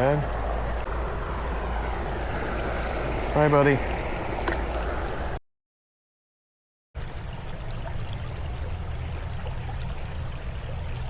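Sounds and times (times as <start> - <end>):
creek water trickling: 0.0 - 5.4, 7.0 - 11.0.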